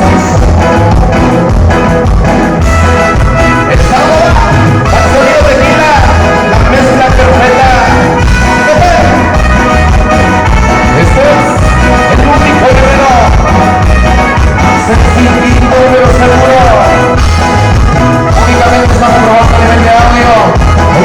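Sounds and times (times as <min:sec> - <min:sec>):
latin dance music: 0:00.0 - 0:21.0.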